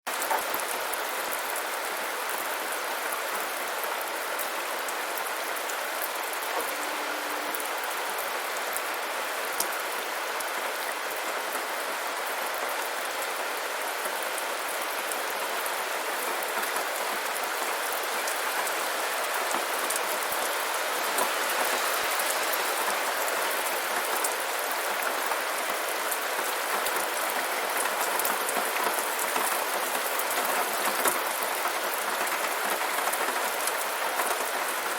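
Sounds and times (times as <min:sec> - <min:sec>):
steady rainfall: 0:00.1 - 0:34.9.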